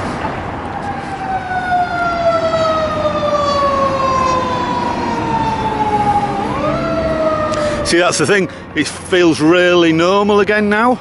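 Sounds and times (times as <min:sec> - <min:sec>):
emergency siren wailing: 0:00.0 - 0:09.6
road traffic noise: 0:00.0 - 0:11.0.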